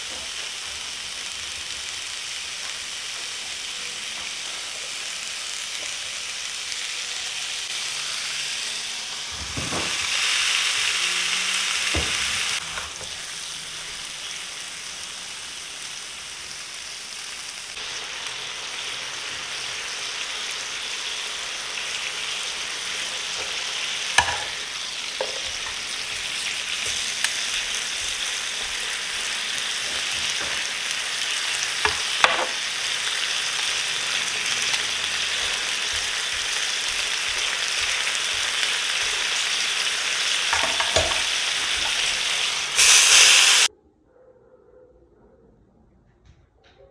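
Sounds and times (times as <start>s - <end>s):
meat sizzling in a pan: 0.0s - 43.7s.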